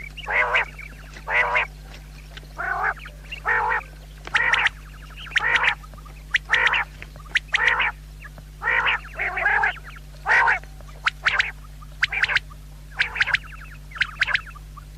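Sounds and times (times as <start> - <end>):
quail calling: 0.0 - 14.9
steady low hum: 0.0 - 14.9.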